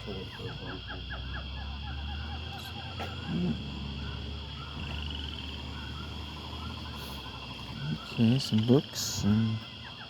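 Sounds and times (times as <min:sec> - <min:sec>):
chirping animal calls: 0:00.0 - 0:10.0.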